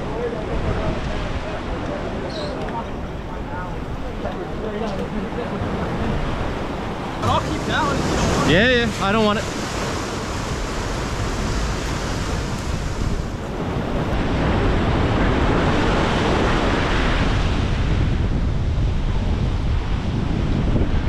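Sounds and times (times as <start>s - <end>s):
ocean surf breaking: 0.0s - 21.0s
wind on microphone: 0.0s - 21.0s.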